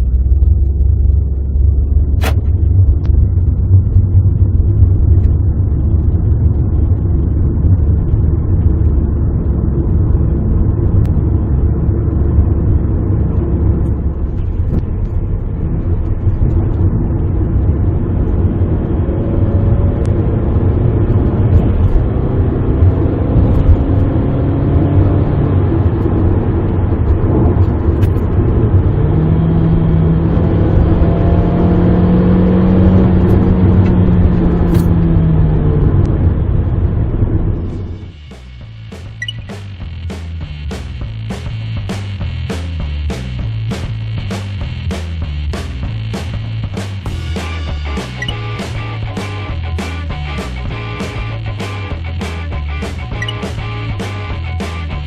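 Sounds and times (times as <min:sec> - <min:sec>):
car engine exhaust rumble: 0:00.0 - 0:55.0.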